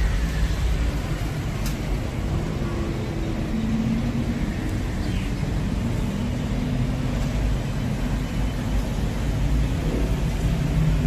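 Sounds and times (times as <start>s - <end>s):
traffic driving past: 0.0s - 11.0s.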